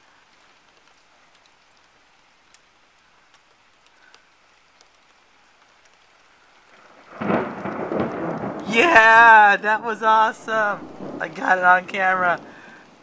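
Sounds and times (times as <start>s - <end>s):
rain hiss: 0.0s - 13.0s
raindrops ticking: 0.0s - 13.0s.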